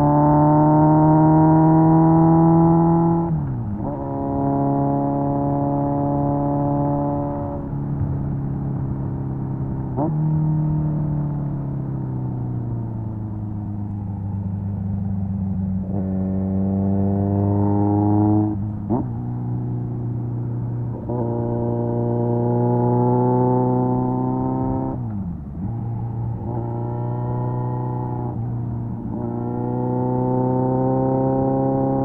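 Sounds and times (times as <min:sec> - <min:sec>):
motorcycle engine revving: 0:00.0 - 0:08.0, 0:14.3 - 0:32.0.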